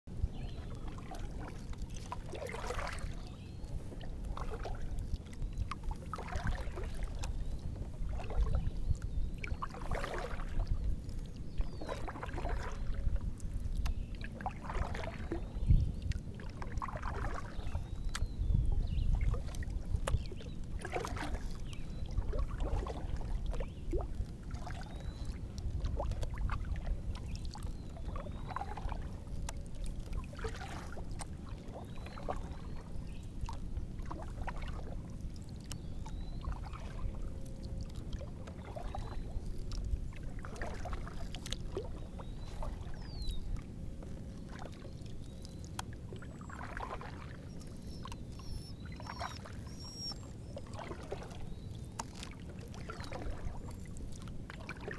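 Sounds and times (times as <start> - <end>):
paddle strokes swishing water: 0.1 - 54.9.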